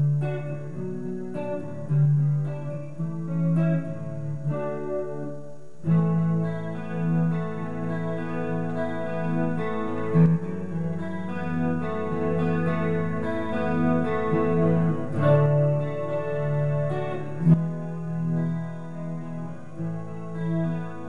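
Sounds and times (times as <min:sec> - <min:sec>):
electric guitar strumming chords: 0:00.0 - 0:21.0.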